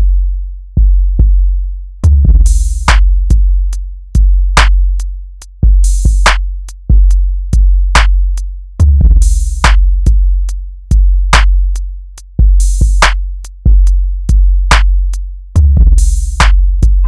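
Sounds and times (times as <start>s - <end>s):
hip hop drum machine beat: 0.8s - 17.0s.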